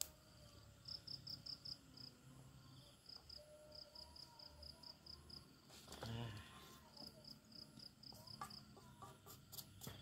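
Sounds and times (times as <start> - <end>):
insect chirping: 0.0 - 10.0.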